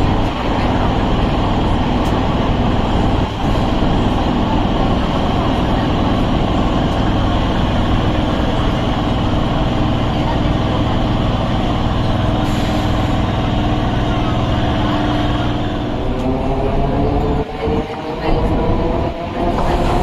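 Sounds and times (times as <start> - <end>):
electric train running on track: 0.0 - 20.0.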